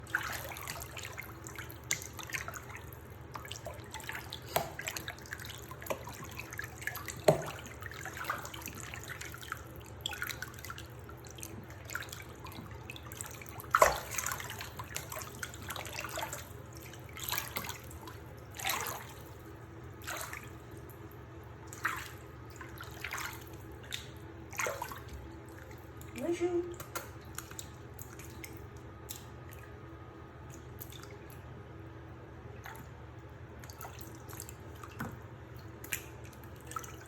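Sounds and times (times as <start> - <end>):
water splashing in a basin: 0.0 - 31.6, 32.5 - 37.0.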